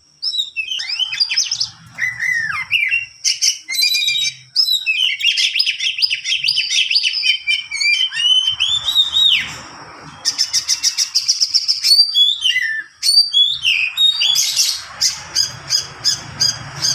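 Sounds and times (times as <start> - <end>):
songbird singing whistles and trills: 0.1 - 16.9.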